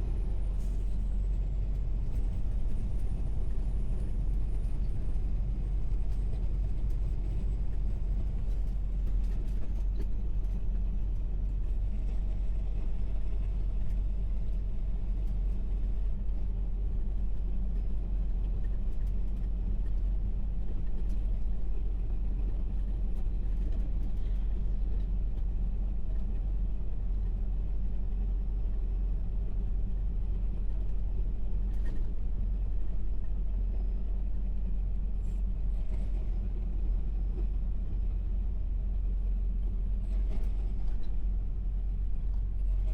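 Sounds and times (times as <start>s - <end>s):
truck engine and road rumble: 0.0s - 42.9s.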